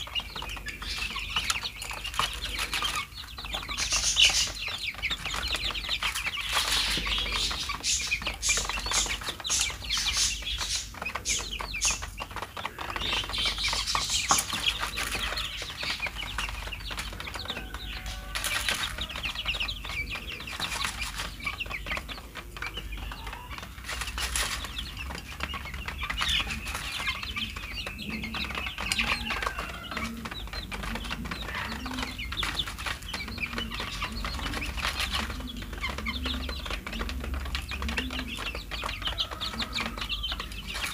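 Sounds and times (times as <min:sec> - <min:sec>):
beaks tapping plastic tray: 0:00.0 - 0:40.9
chicks peeping and clucking: 0:00.0 - 0:40.9.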